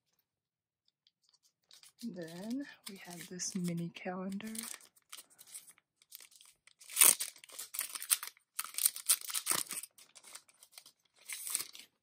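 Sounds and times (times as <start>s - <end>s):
plastic sleeve crinkling: 1.2s - 12.0s.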